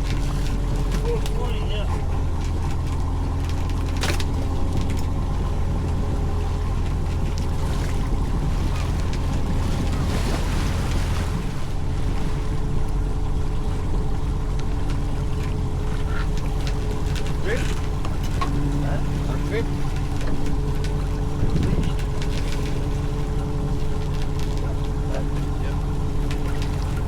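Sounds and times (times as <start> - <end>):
boat engine humming: 0.0 - 27.0.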